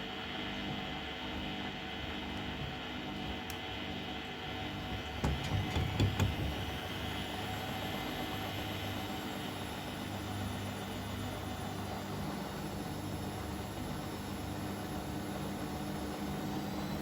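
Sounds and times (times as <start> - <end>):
washing machine motor whirring: 0.0 - 17.0.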